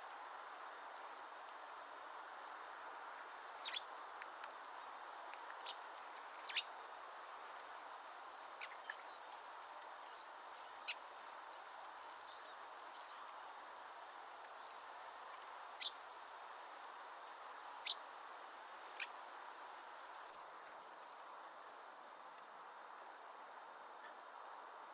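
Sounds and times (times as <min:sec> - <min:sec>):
background hiss: 0:00.0 - 0:24.9.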